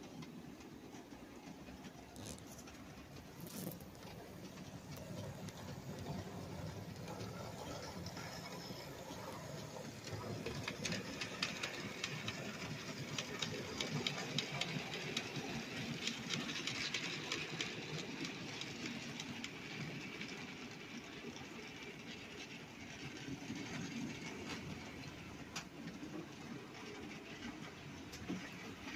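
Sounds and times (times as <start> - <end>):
wheels clicking over rail joints: 0.0 - 28.9.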